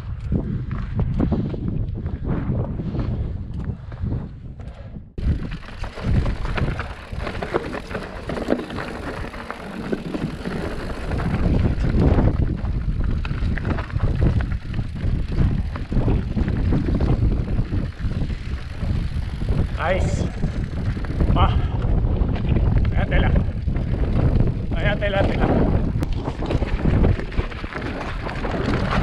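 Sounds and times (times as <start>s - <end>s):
bike tyres on stony ground: 0.0s - 29.0s
wind buffeting microphone: 0.0s - 29.0s
bike rattling: 5.2s - 29.0s.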